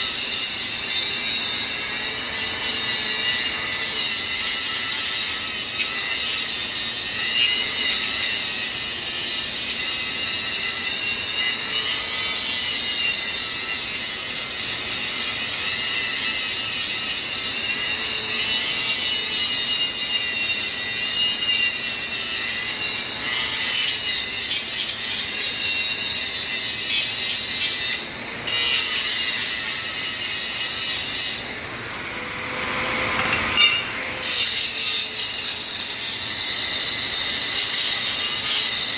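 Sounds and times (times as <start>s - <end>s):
grinder grinding steel: 0.0s - 38.9s.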